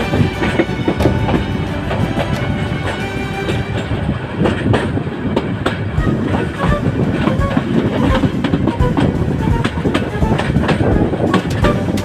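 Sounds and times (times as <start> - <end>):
train rumbling on rails: 0.0 - 12.0
wheels clacking over rail joints: 0.0 - 12.0.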